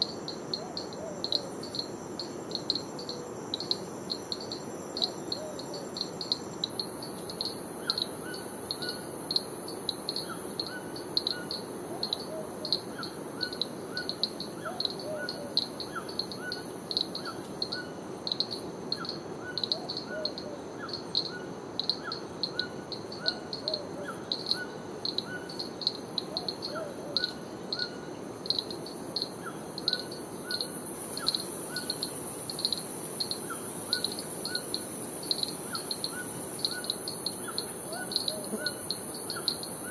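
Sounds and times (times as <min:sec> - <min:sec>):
insect hiss: 0:00.0 - 0:39.9.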